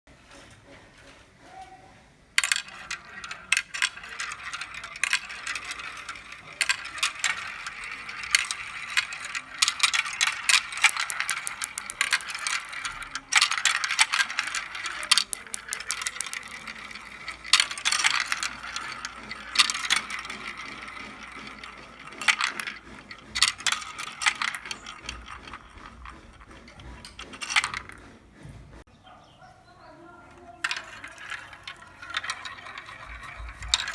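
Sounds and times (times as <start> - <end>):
marbles rattling down a track: 2.4 - 28.0, 30.6 - 33.9.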